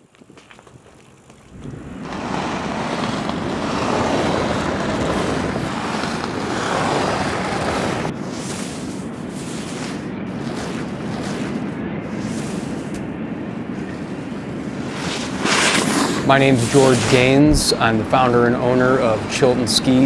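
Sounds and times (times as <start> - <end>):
skis sliding over snow: 0.0 - 13.0, 13.8 - 20.0
wind: 0.0 - 20.0.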